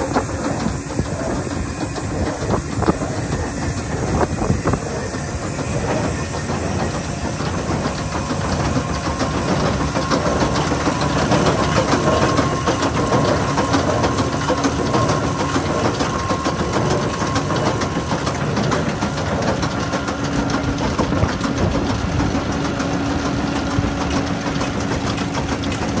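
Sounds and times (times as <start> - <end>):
baler engine running: 0.0 - 26.0
rapid mechanical clatter: 0.0 - 26.0.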